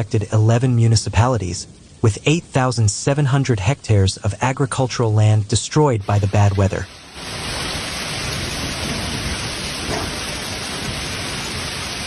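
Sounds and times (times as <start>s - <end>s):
heavy rain pattering: 0.0s - 12.0s.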